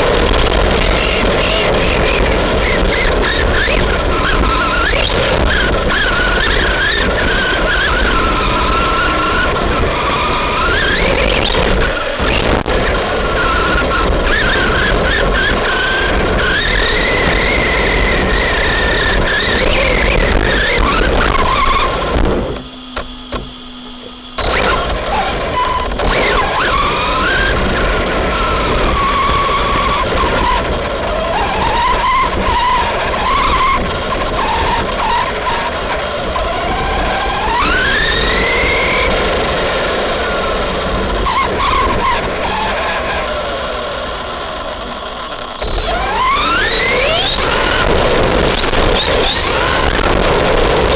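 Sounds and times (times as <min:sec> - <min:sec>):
electric motor whining: 0:00.0 - 0:50.9
steady rushing noise: 0:00.0 - 0:50.9.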